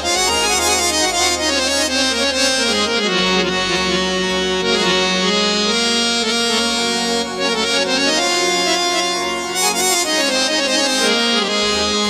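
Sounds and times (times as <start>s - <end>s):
keyboard harmonium melody: 0.0s - 12.0s.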